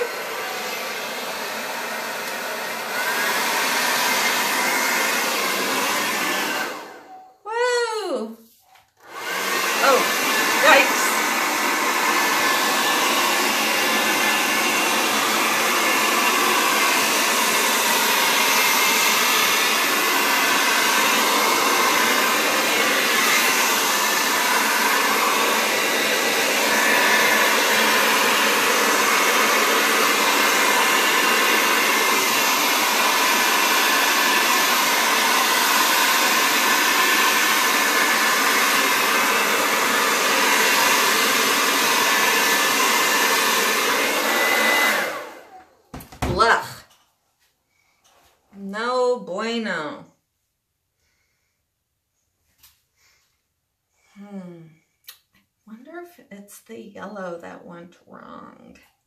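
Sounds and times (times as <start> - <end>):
hair dryer blowing: 0.0 - 8.2, 9.0 - 46.8, 48.0 - 50.0.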